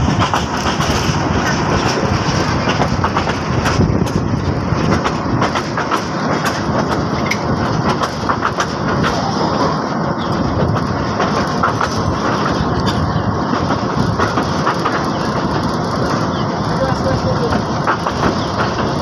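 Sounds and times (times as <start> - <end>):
train rumbling: 0.0 - 19.0
wheels clattering on rails: 0.0 - 19.0.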